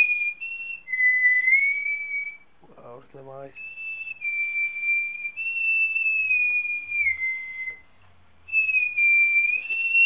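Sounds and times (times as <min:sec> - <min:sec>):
person whistling a high note: 0:00.0 - 0:02.5, 0:03.4 - 0:10.0.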